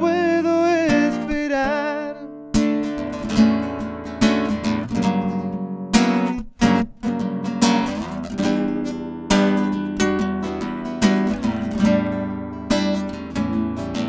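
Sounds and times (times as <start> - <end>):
classical guitar strumming: 0.0 - 14.0.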